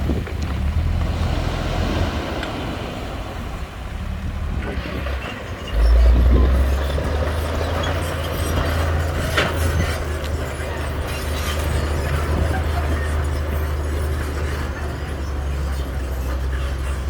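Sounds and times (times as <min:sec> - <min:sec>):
diesel machinery engine drone: 0:00.0 - 0:17.0.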